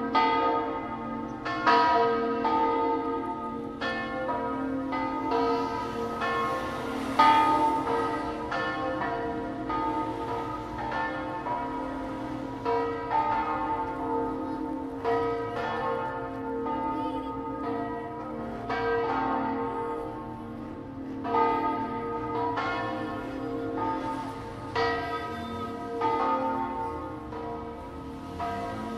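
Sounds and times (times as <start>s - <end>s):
church bells ringing: 0.0s - 28.9s.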